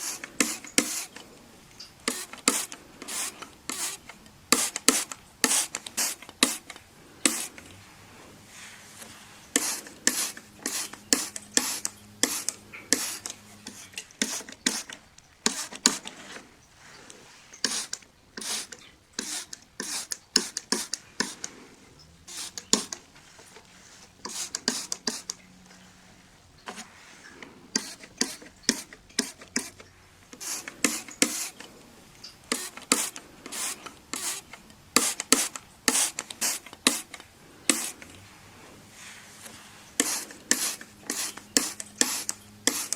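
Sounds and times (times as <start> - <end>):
hand rubbing window glass: 0.0 - 1.2, 2.0 - 25.9, 26.6 - 31.8, 32.5 - 42.9.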